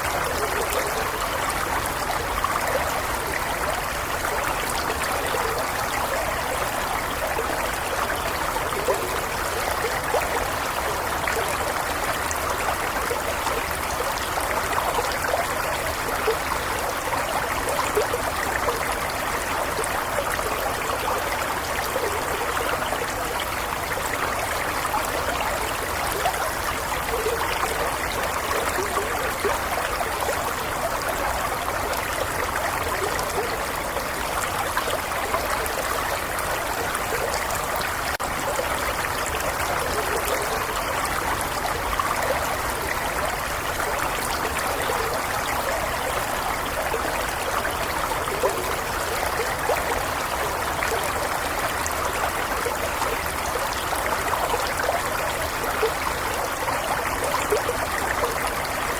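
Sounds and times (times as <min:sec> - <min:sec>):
stream flowing over stones: 0:00.0 - 0:58.9.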